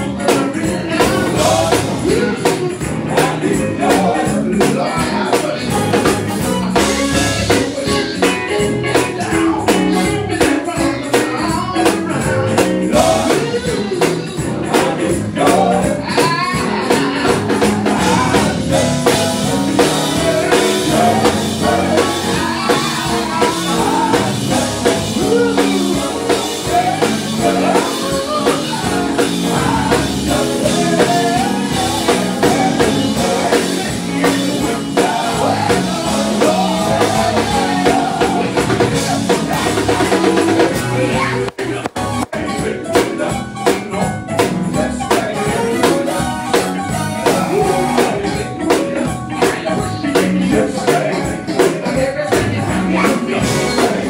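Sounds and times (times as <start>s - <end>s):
band playing: 0.0s - 54.0s
drum kit beat: 0.0s - 54.0s
gospel quartet singing: 0.0s - 54.0s.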